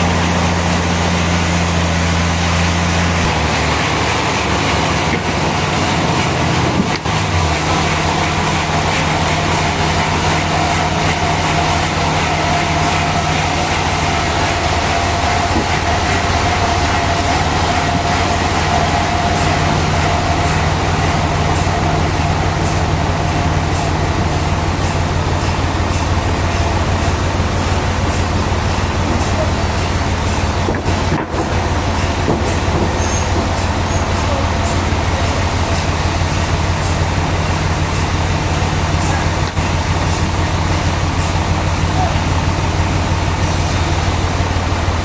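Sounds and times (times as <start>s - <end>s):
machinery whine: 0.0s - 45.0s
sawmill machinery drone: 0.0s - 45.0s.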